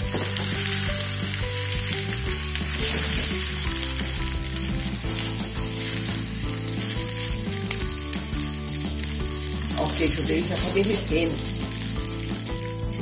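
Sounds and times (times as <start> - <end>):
omelette sizzling in a pan: 0.0 - 13.0.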